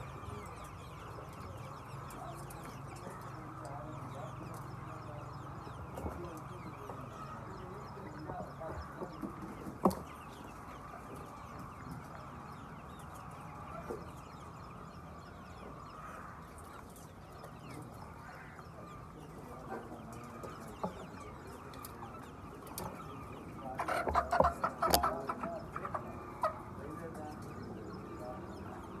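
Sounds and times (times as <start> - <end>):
hens clucking: 0.0 - 29.0.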